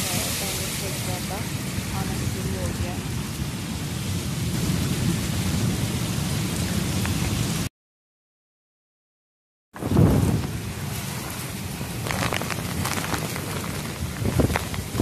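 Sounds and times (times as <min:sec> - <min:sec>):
heavy rain on open ground: 0:00.0 - 0:07.7, 0:09.8 - 0:15.0.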